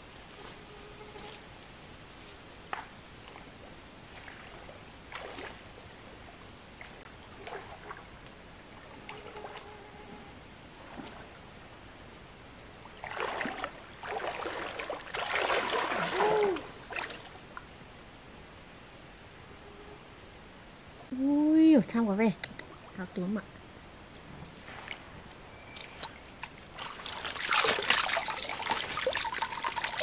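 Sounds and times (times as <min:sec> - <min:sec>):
water splashing and sloshing: 0:00.2 - 0:17.8, 0:22.5 - 0:30.0.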